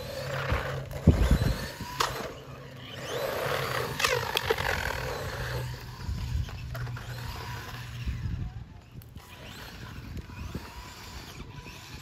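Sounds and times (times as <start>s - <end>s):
electric motor whining: 0.0s - 12.0s
tyres scrabbling over ground: 0.0s - 12.0s.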